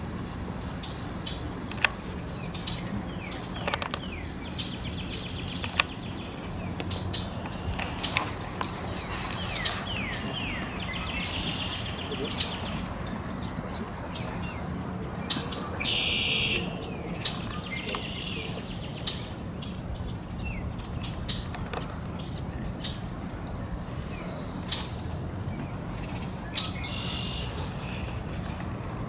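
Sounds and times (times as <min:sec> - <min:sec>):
small birds chirping: 0:00.6 - 0:28.8.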